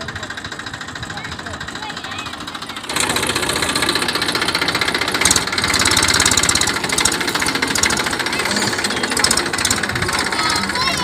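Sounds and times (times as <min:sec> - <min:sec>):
threshing machine engine knocking: 0:00.0 - 0:11.0.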